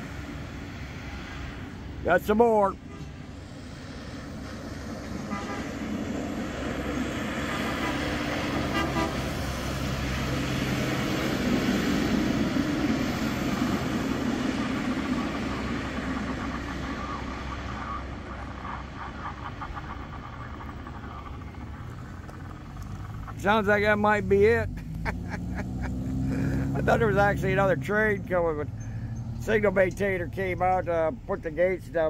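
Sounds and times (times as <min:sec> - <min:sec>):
diesel engine rolling past on rails: 0:03.1 - 0:32.0.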